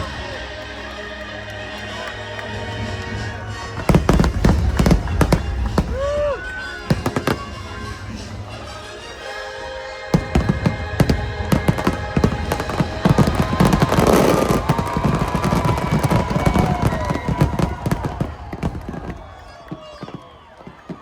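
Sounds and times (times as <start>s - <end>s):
background music: 0.0s - 21.0s
fireworks bangs and crackling: 0.0s - 21.0s.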